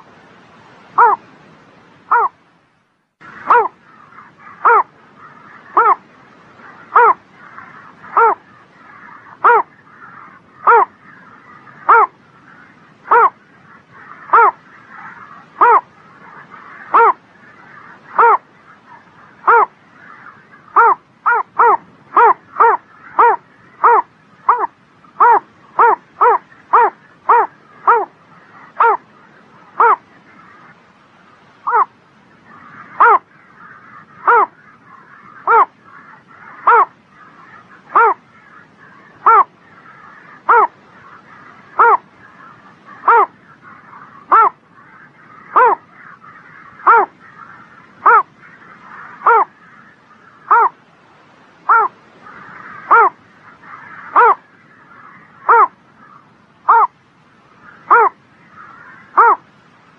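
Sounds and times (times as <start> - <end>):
bittern harsh calls: 1.0 - 1.3, 2.1 - 2.4, 3.2 - 29.1, 31.6 - 50.8, 51.6 - 57.0, 57.7 - 59.4.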